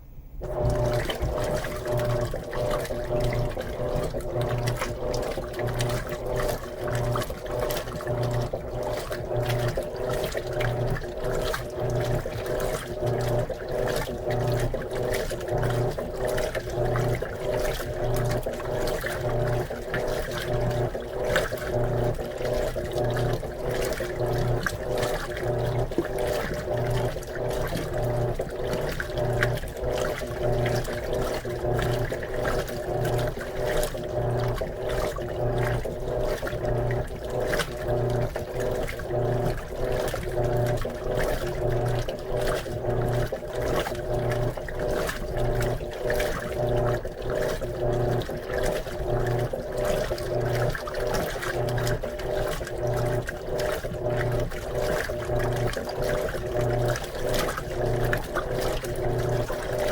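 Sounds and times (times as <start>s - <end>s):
washing machine motor humming: 0.0s - 59.9s
water sloshing in tub: 0.0s - 59.9s.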